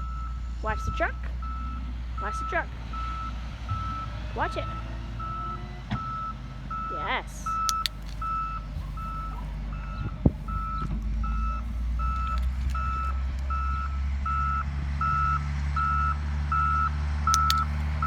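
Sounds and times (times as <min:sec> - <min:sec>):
truck engine rumble: 0:00.0 - 0:18.0
truck reversing alarm beeping: 0:00.0 - 0:18.0.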